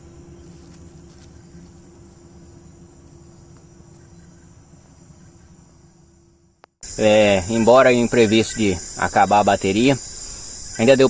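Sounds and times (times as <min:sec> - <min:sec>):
faint low hum and rumble: 0:00.0 - 0:10.8
insects trilling: 0:00.0 - 0:11.0.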